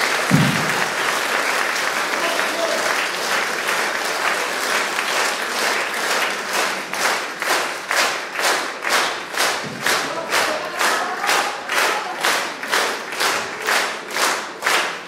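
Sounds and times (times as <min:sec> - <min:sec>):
audience clapping in unison: 0:00.0 - 0:15.0.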